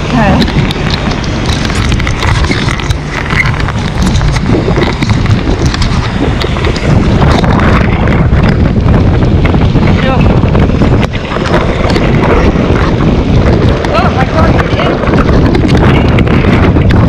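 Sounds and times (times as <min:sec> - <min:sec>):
wind blasting across microphone: 0:00.0 - 0:17.0.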